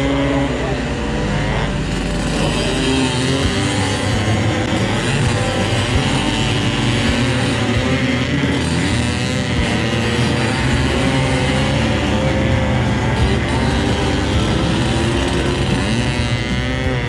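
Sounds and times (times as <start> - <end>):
scooter engines running: 0.0 - 17.0
music: 1.7 - 17.0.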